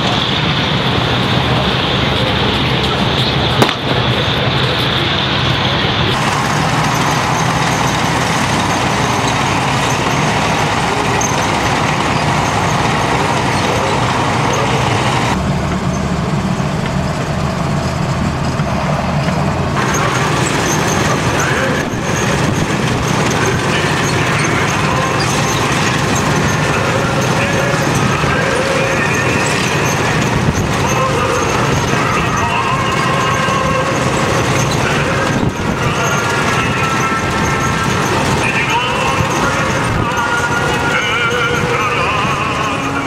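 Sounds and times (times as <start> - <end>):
military vehicle engines droning: 0.0 - 43.0
road noise: 0.0 - 43.0.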